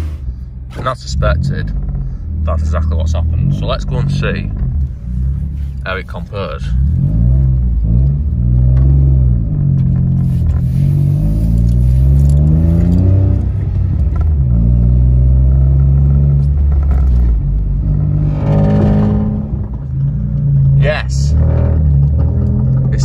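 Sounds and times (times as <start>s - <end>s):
loud car engine and exhaust: 0.0s - 23.0s.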